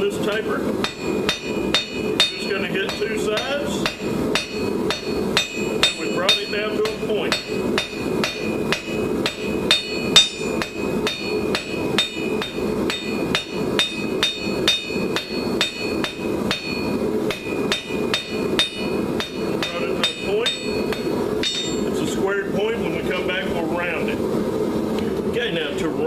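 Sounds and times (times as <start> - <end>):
hammer striking steel on anvil: 0.3 - 22.0.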